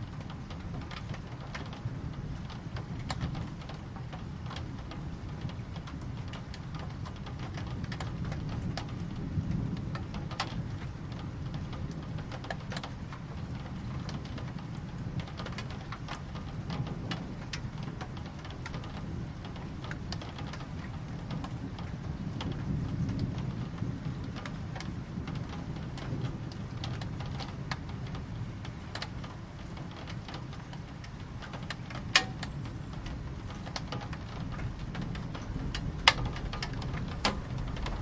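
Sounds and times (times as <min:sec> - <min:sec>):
raindrops ticking: 0:00.0 - 0:38.0
steady rain: 0:00.0 - 0:38.0.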